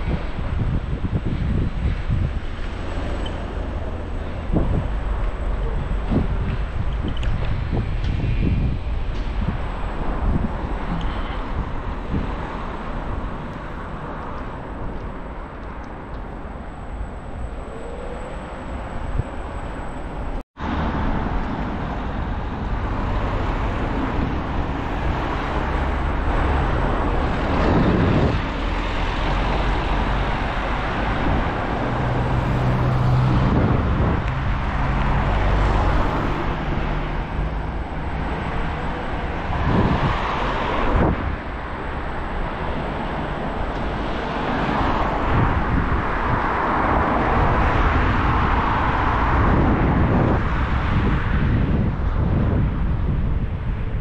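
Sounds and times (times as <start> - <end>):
cars passing: 0.0 - 54.0
wind rushing: 0.0 - 54.0.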